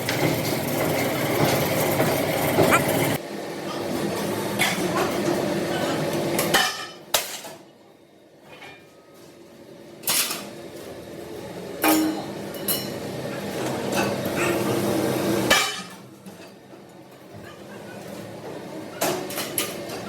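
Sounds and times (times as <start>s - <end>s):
workshop hum: 0.0s - 20.0s.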